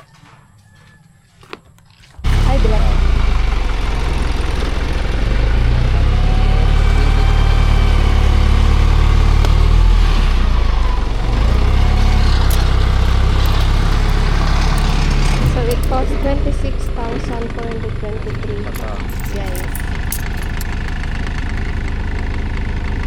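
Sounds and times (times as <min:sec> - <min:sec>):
engine running at low speed: 0:02.1 - 0:23.0.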